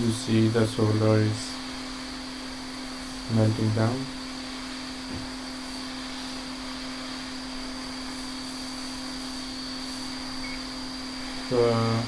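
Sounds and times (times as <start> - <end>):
faint high whine: 0.0 - 12.0
hot air station blowing with hum: 0.0 - 12.0.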